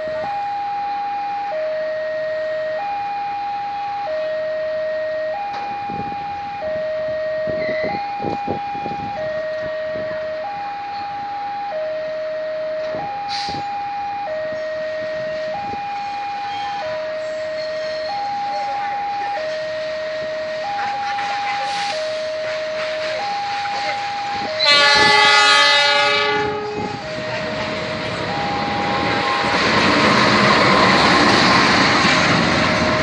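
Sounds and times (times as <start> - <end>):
two-tone level-crossing alarm: 0.0 - 31.6.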